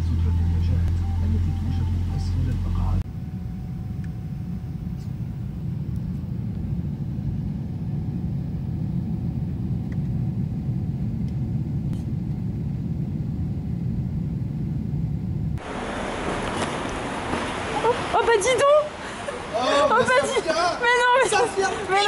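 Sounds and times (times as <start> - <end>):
jet cabin engine rumble: 0.0 - 18.2.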